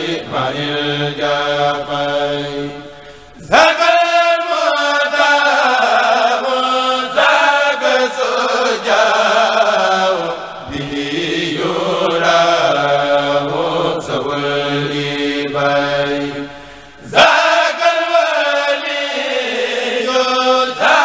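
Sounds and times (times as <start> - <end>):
group of men chanting: 0.0 - 2.8, 3.4 - 16.4, 17.0 - 21.0.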